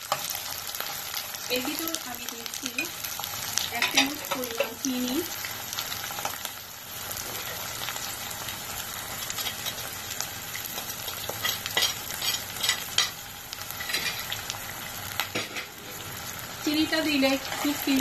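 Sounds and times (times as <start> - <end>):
onion sizzling in hot oil: 0.0 - 18.0
sharp crackles of frying: 0.0 - 18.0.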